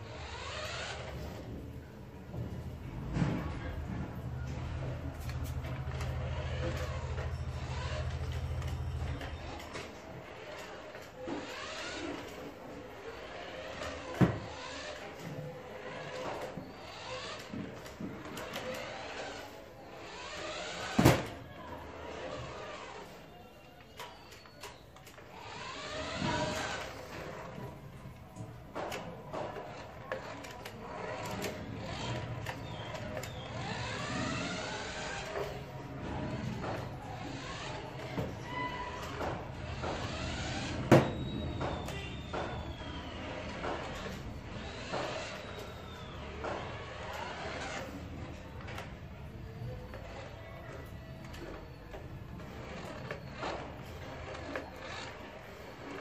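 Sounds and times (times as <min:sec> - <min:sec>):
toy car electric motor whining: 0:00.0 - 0:01.6, 0:04.5 - 0:27.8, 0:28.4 - 0:56.0.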